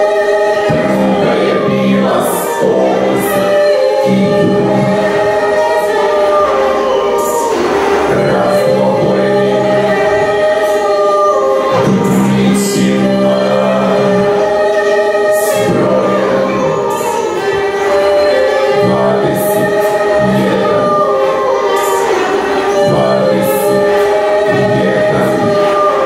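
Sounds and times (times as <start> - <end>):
choir-like voices singing: 0.0 - 26.0
held low tones: 0.0 - 26.0.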